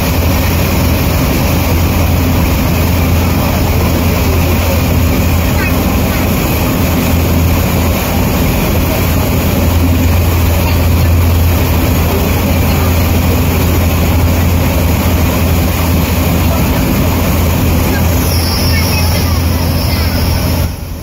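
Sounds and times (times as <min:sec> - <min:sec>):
ferry engine droning: 0:00.0 - 0:21.0
rushing water noise: 0:00.0 - 0:21.0.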